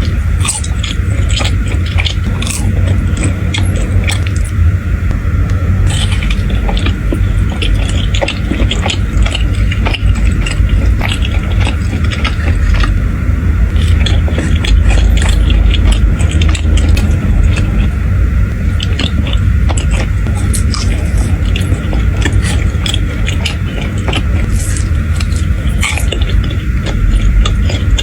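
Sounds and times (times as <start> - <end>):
low steady rumble: 0.0 - 28.0
pizza being chewed: 0.0 - 28.0.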